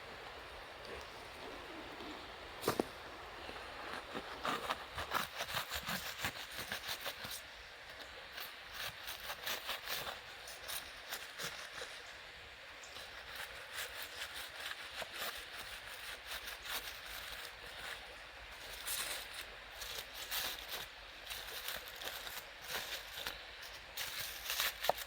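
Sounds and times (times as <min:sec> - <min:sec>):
soft fire hiss: 0:00.0 - 0:05.4, 0:06.0 - 0:25.0.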